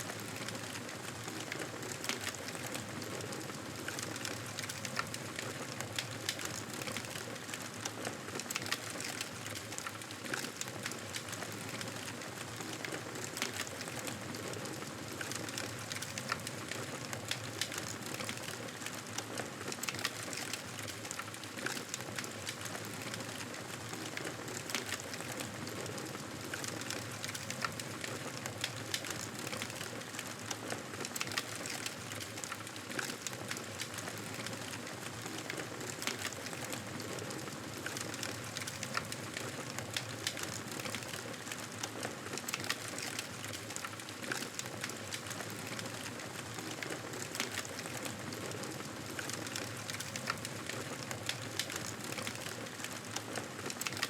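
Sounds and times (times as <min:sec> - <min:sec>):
campfire crackling and popping: 0:03.8 - 0:54.0.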